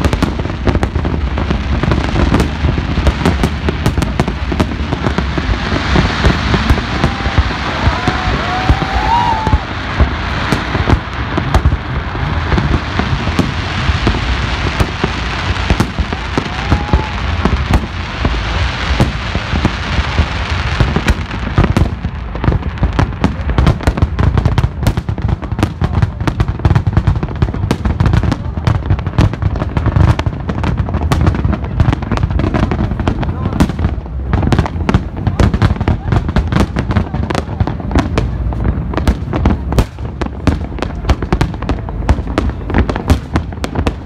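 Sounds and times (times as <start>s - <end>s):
firework crackling: 0.0s - 44.0s
firework shells booming: 0.0s - 44.0s
sharp crackles and pops: 0.0s - 44.0s.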